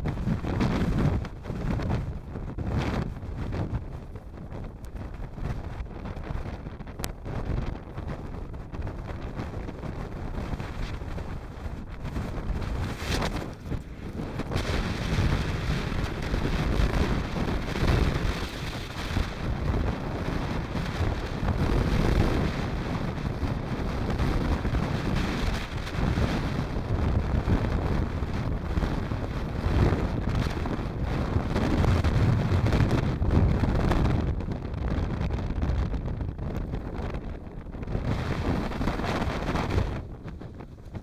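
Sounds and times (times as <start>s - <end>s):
wind gusting across microphone: 0.0s - 41.0s.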